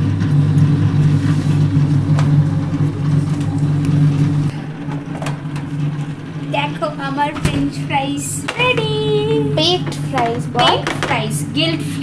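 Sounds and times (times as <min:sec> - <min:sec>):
appliance motor humming: 0:00.0 - 0:12.0.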